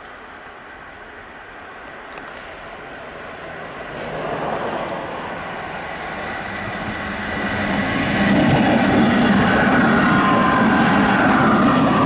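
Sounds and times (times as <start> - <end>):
diesel locomotives low drone: 0.0 - 12.0
locomotive whine: 0.2 - 12.0.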